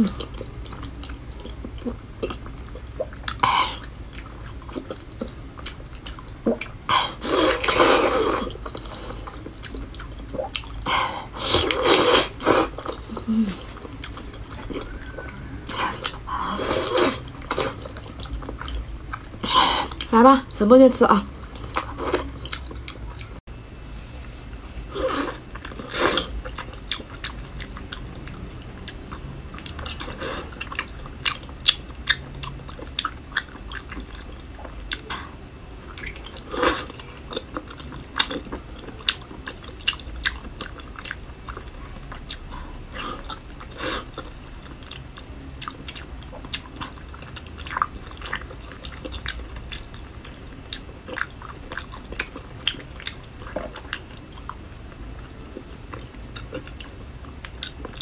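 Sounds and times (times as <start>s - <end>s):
wet chewing and lip-smacking: 0.0s - 6.8s, 7.4s - 20.1s, 25.6s - 35.2s, 35.9s - 54.6s.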